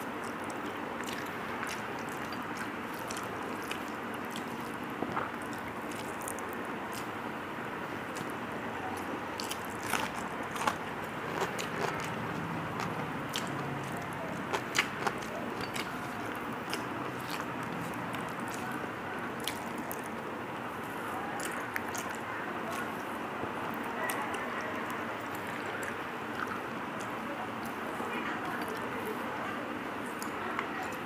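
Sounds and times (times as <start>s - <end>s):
person chewing and smacking: 0.0s - 27.8s
rice squishing on steel plate: 0.0s - 27.8s.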